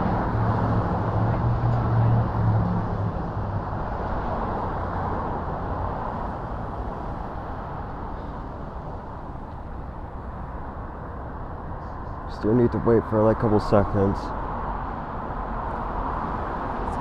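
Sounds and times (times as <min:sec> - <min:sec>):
tyre and traffic noise: 0:00.0 - 0:17.0
vehicle engine hum: 0:00.0 - 0:17.0.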